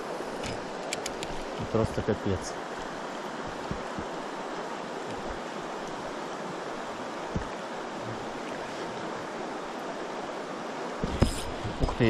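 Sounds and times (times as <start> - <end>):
river rushing over riffle: 0.0 - 12.0.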